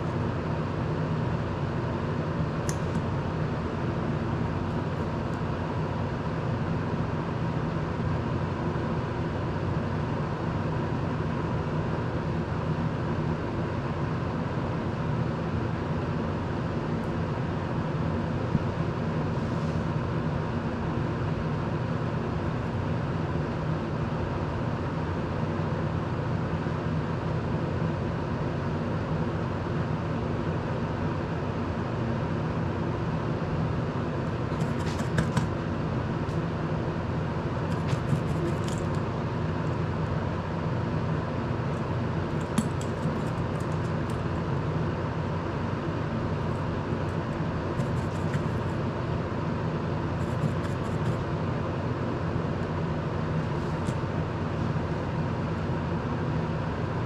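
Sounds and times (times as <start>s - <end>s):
desk fan running: 0.0s - 57.0s.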